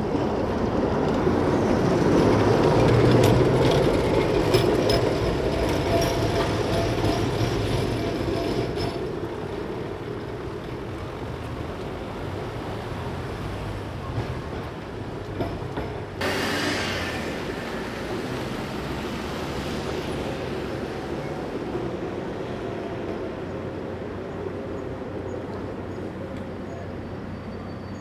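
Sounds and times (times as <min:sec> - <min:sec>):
street traffic hum: 0:00.0 - 0:28.0
tram rumbling past: 0:00.0 - 0:28.0.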